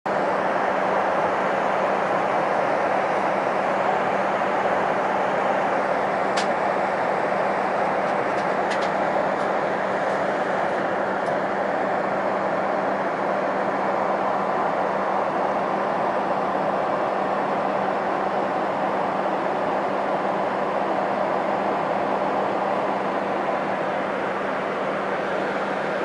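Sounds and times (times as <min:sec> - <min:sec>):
jet airliner cabin noise: 0:00.1 - 0:26.0.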